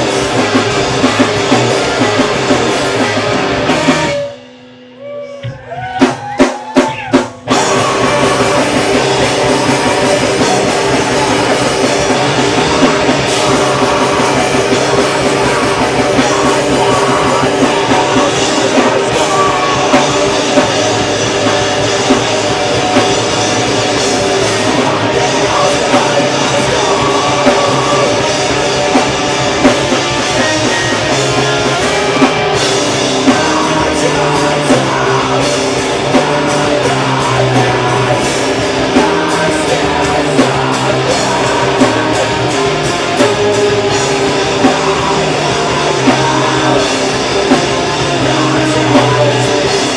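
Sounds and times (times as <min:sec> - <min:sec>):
metal band playing: 0:00.0 - 0:49.9
pounding drum kit: 0:00.0 - 0:49.9
person singing: 0:05.0 - 0:49.9.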